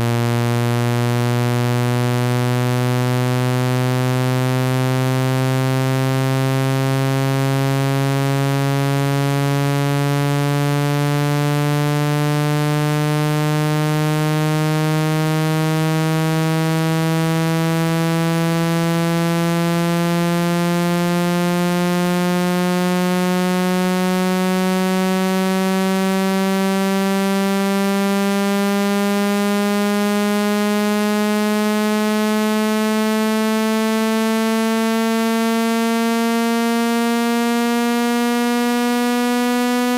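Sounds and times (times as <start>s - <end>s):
buzzy low tone rising in pitch: 0.0s - 39.9s.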